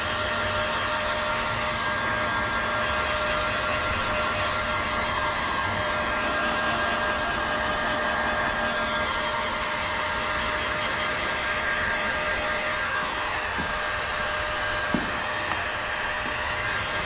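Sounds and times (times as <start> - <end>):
heat gun blowing air: 0.0 - 17.0.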